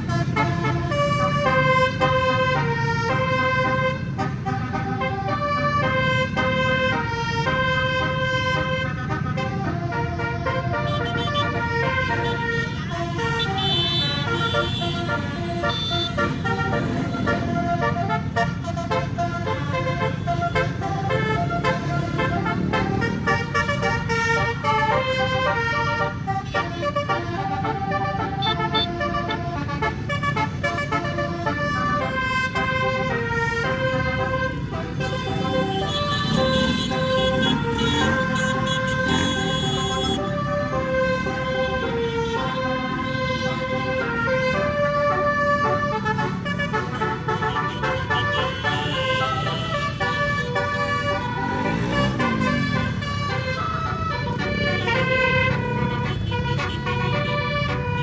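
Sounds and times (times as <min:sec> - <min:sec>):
engine and traffic rumble: 0:00.0 - 0:58.0
musical air horn melody: 0:00.0 - 0:58.0.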